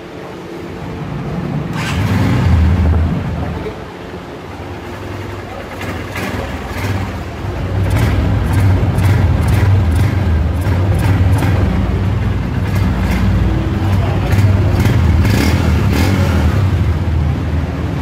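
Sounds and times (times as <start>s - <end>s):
motorcycle engine revving: 0.8s - 3.9s, 4.7s - 18.0s.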